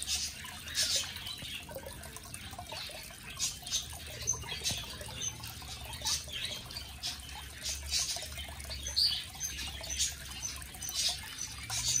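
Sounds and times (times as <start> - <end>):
water trickling from a fountain: 0.0 - 12.0.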